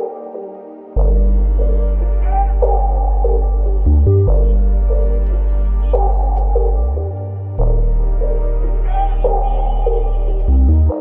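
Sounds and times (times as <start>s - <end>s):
ambient drone music: 0.0s - 11.0s.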